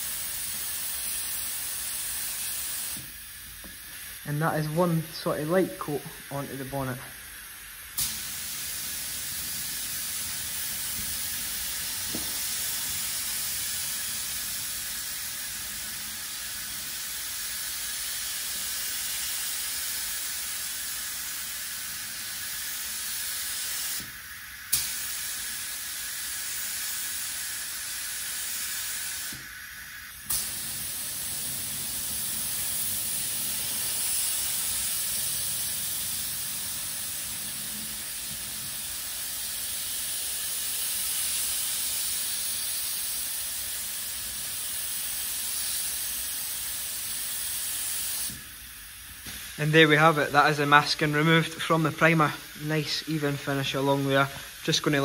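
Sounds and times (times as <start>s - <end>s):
spray gun hissing: 0.0s - 55.0s.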